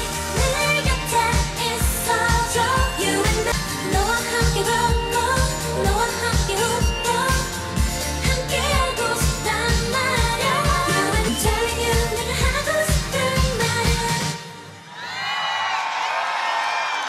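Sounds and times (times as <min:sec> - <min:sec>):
pop backing track with drum beat: 0:00.0 - 0:14.6
woman singing pop song: 0:00.0 - 0:14.8.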